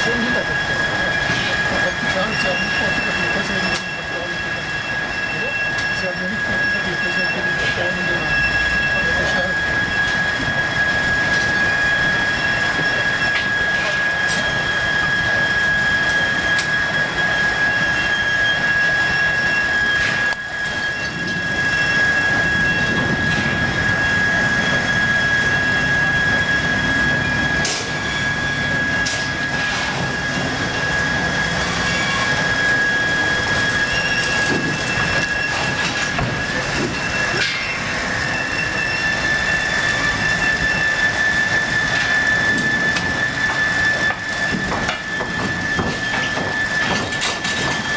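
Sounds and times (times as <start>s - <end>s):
sawmill machinery whine and rumble: 0.0s - 47.9s.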